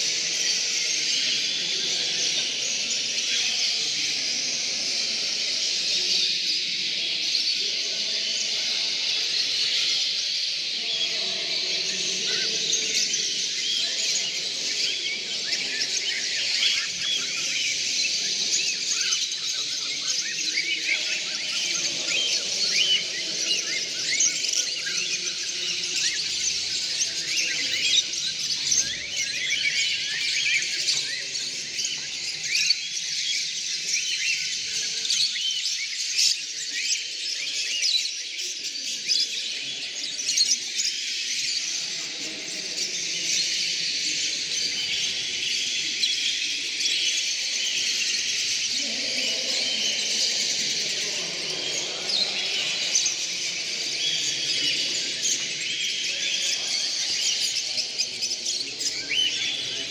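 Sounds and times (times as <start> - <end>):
caged birds chirping and calling: 0.0 - 59.9.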